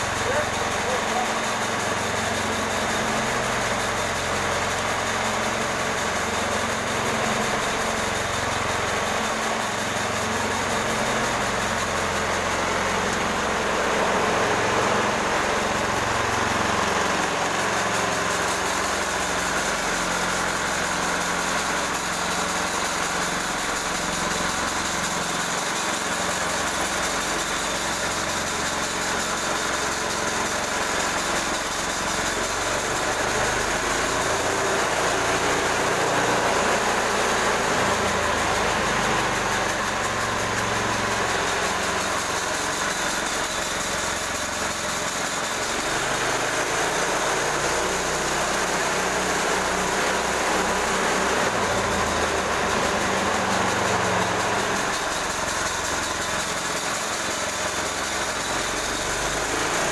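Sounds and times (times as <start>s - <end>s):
bandsaw mill sawing log: 0.0s - 59.9s.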